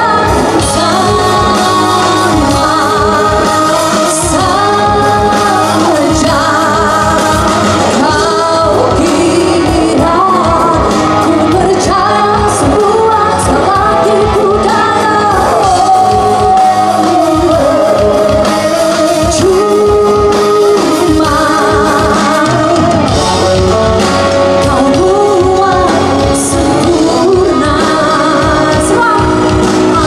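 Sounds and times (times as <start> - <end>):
rock band with electric guitar: 0.0 - 30.0
woman singing rock song: 0.0 - 30.0.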